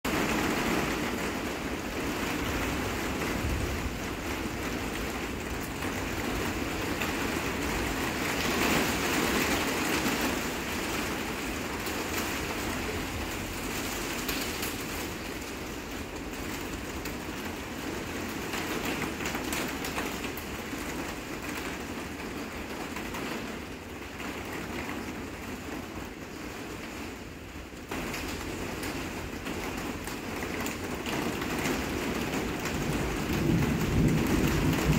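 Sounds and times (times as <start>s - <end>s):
rain on greenhouse roof: 0.0s - 34.9s.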